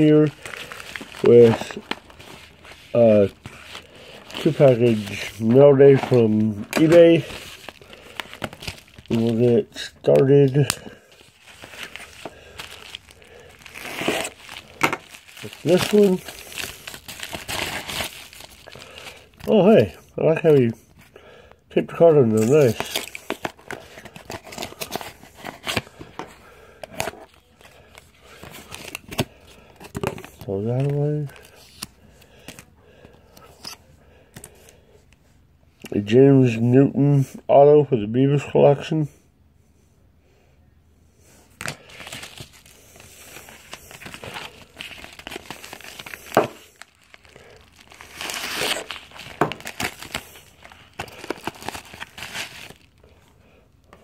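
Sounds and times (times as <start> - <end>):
padded envelope crinkling: 0.0 - 20.8, 21.9 - 33.8, 41.6 - 53.3.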